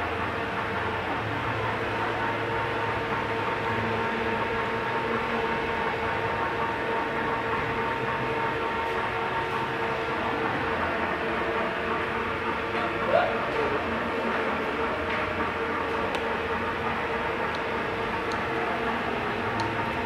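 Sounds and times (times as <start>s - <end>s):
machinery hum with steady whine: 0.0s - 20.0s.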